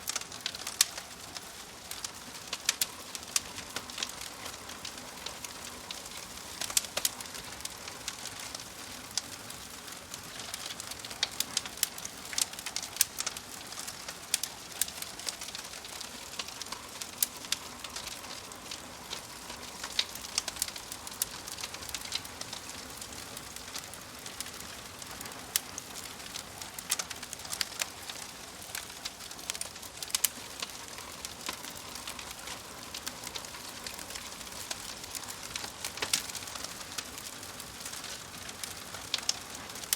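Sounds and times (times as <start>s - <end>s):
fire soft hiss: 0.0s - 39.9s
logs crackling and popping: 0.0s - 39.9s.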